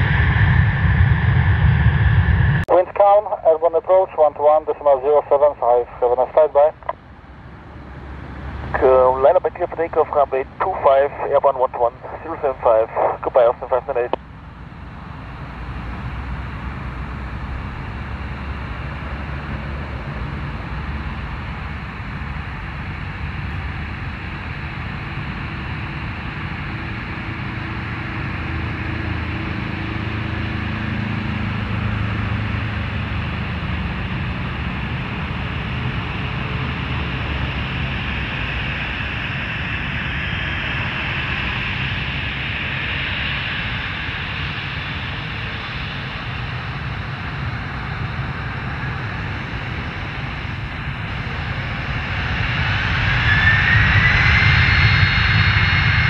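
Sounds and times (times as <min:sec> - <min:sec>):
jet engine rumble with turbine whine: 0:00.0 - 0:56.0.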